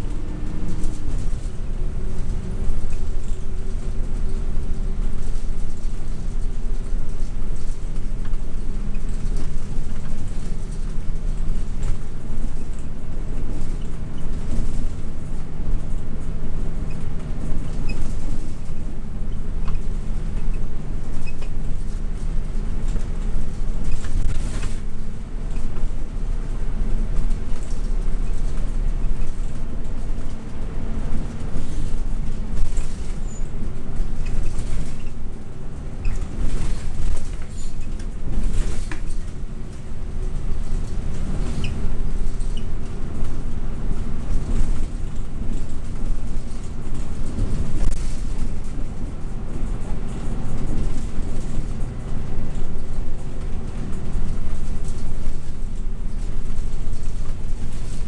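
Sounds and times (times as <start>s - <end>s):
bus engine hum: 0.0s - 58.0s
rattles in bus cabin: 0.0s - 58.0s
road rumble: 0.0s - 58.0s.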